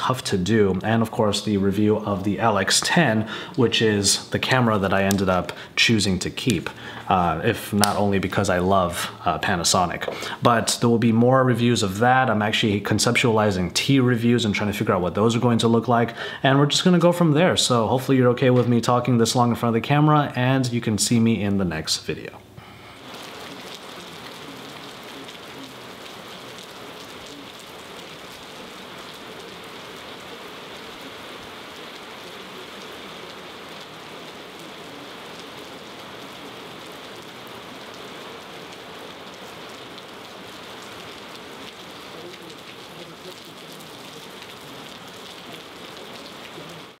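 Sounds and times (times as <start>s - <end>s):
rain falling on standing water: 0.0s - 22.2s, 22.9s - 47.0s.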